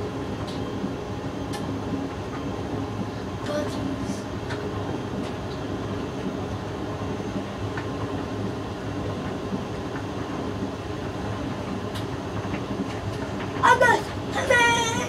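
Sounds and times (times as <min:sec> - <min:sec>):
washing machine rumbling: 0:00.0 - 0:15.0.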